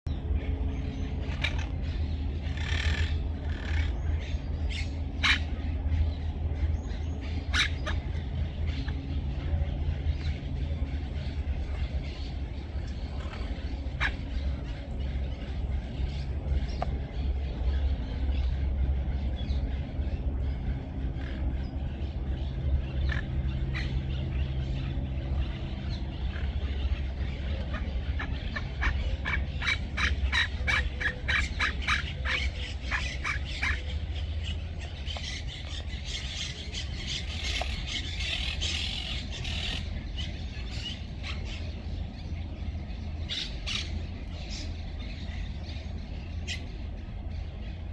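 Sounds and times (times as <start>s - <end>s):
small birds chirping: 0.1s - 47.9s
steady low rumble: 0.1s - 47.9s.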